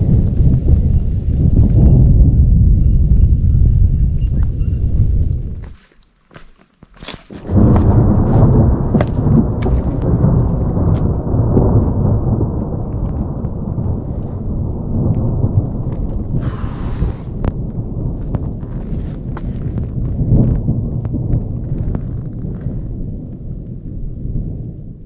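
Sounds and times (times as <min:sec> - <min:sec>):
thunder rumbling: 0:00.0 - 0:05.7, 0:07.3 - 0:25.0.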